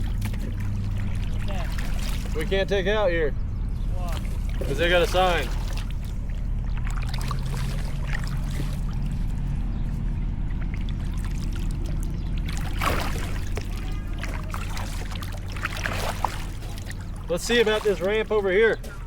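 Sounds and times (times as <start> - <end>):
paddle splashing in water: 0.0 - 2.6, 4.0 - 9.6, 10.5 - 19.0
steady low rumble: 0.0 - 19.0.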